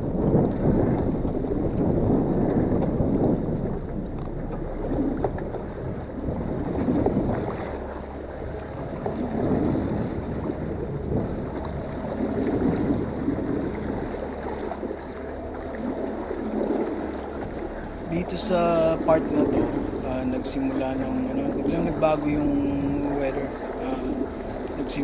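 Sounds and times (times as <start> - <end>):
boat engine drone: 0.0 - 25.0
water surging: 0.0 - 25.0
wind buffeting microphone: 0.0 - 25.0.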